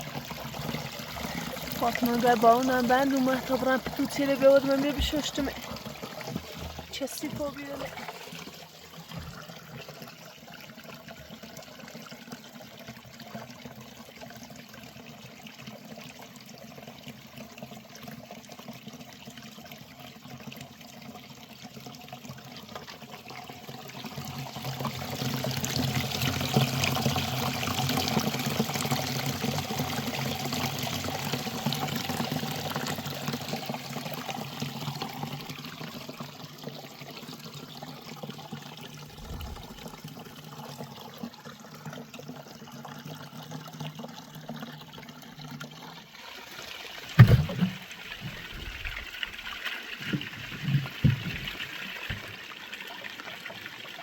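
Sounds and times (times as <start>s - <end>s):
water running and splashing: 0.0s - 13.5s, 22.2s - 54.0s.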